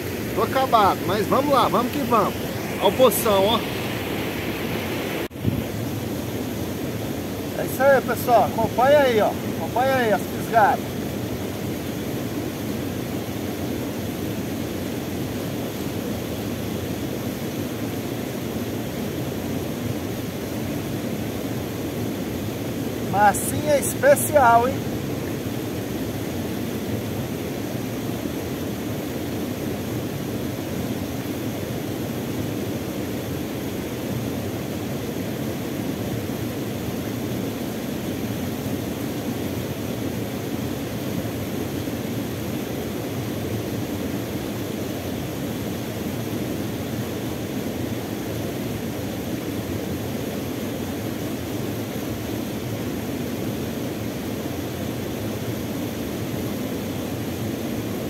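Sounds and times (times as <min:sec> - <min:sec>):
waterfall and rapids rushing: 0:00.0 - 0:58.0.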